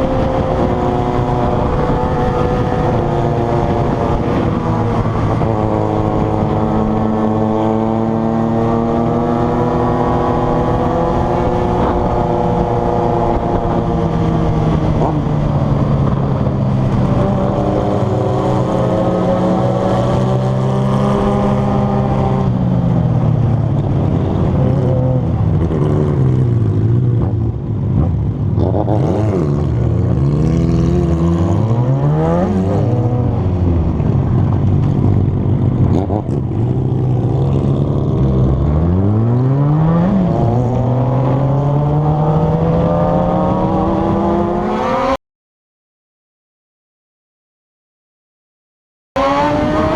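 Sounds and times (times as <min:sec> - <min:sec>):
motorcycle engines revving: 0:00.0 - 0:45.2, 0:49.2 - 0:49.9.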